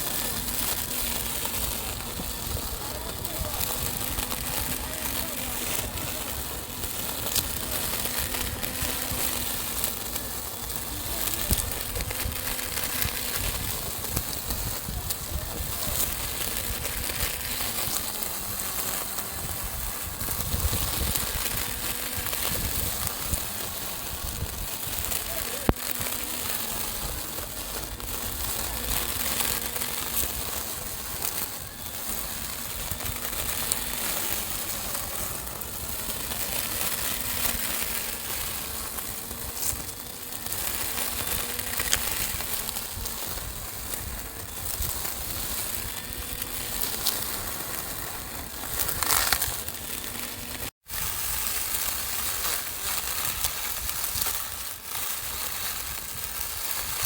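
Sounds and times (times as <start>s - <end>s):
blade crunching through grass: 0.0s - 57.0s
lawn mower motor hum: 0.0s - 57.0s.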